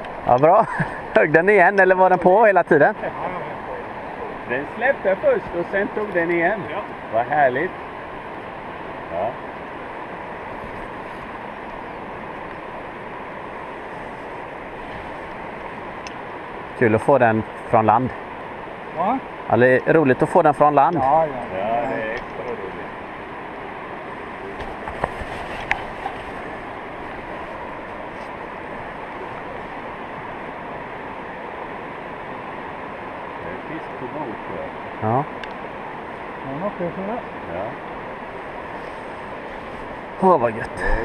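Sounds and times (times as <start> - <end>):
river water rushing through rapids: 0.0 - 41.0.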